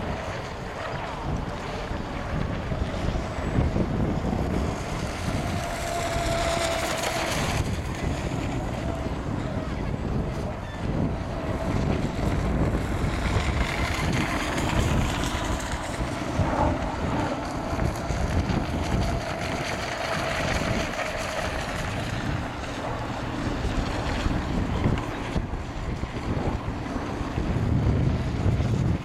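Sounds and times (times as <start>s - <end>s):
model boat motor whine: 0.0s - 29.0s
wind buffeting microphone: 0.0s - 29.0s.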